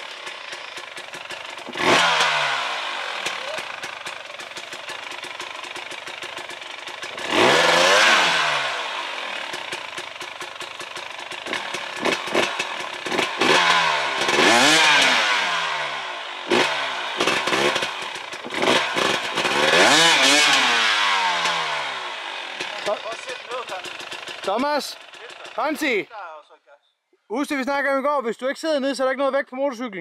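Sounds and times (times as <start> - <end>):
motorcycle engine revving: 0.0 - 26.1.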